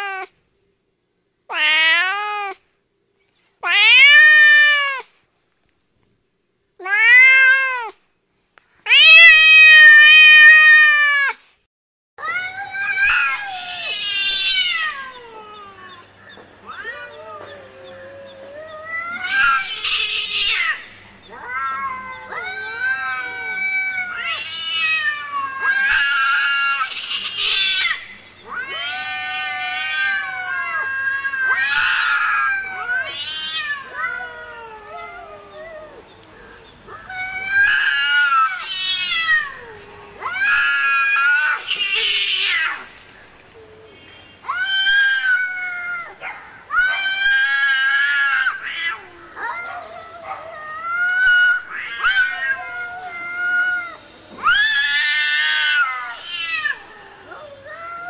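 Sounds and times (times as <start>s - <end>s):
cats yowling: 0.0s - 0.3s, 1.5s - 2.6s, 3.6s - 5.1s, 6.8s - 8.0s, 8.9s - 11.4s, 12.2s - 36.1s, 36.9s - 42.9s, 44.5s - 58.0s.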